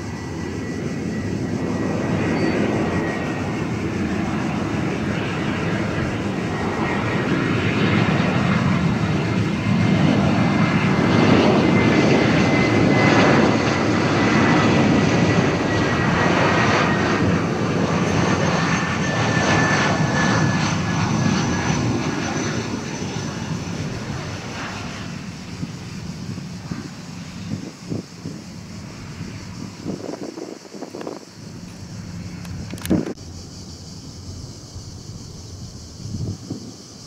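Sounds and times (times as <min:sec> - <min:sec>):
jet engines rumbling: 0:00.0 - 0:37.0
jet fan whine: 0:00.0 - 0:37.0.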